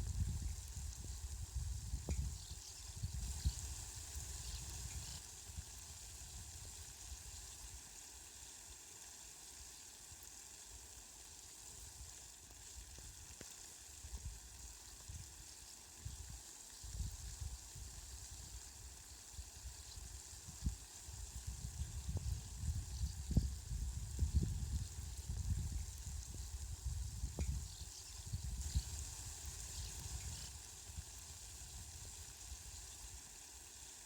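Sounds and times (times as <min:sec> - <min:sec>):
faint rain hiss: 0:00.0 - 0:34.0.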